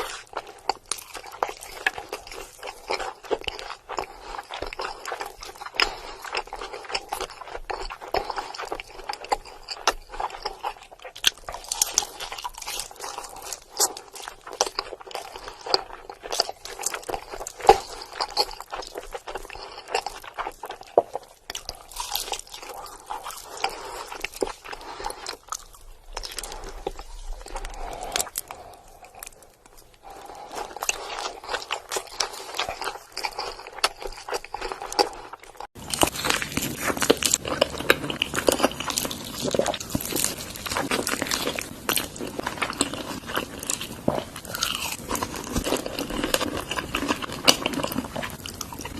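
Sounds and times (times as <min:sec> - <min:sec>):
crunchy food chewing: 0:00.0 - 0:48.9.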